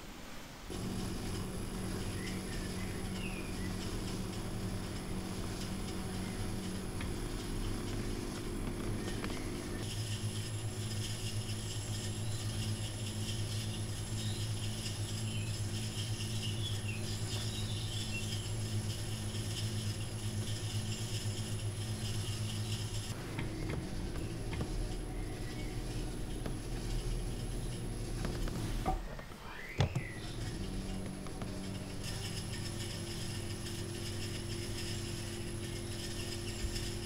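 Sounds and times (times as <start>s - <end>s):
potter's wheel humming: 0.6s - 37.0s.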